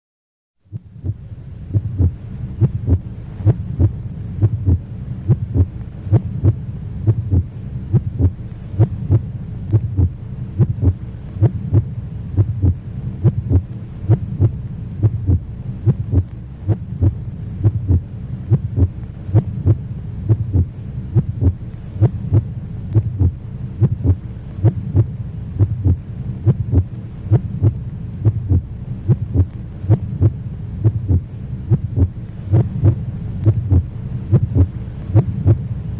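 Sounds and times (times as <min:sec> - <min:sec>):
steady low hum: 0:00.6 - 0:35.9
heartbeat pulses: 0:00.7 - 0:35.7.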